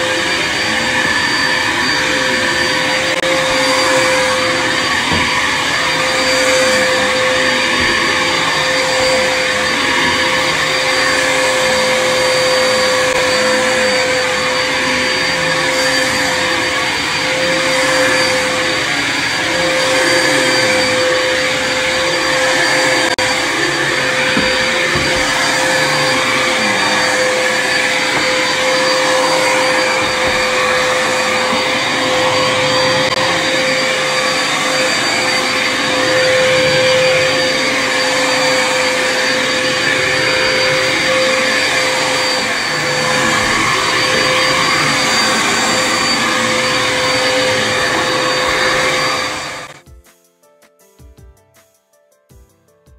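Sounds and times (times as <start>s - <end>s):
vacuum cleaner on carpet: 0.0s - 49.8s.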